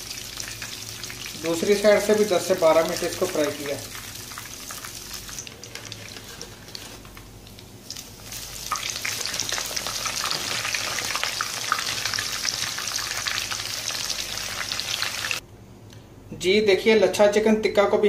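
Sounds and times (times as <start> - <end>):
oil sizzling in a frying pan: 0.0 - 15.4.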